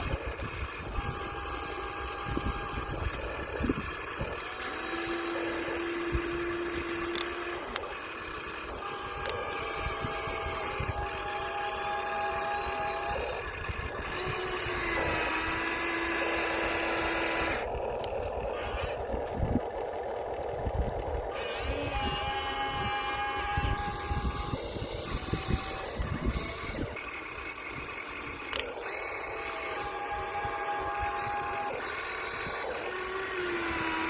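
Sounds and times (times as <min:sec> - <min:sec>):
small electric motors whining: 0:00.0 - 0:34.0.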